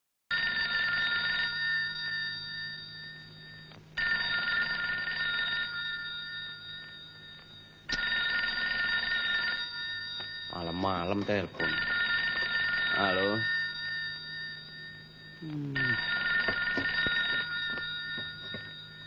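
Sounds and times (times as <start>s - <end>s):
desk telephone ringing: 0.3s - 19.0s.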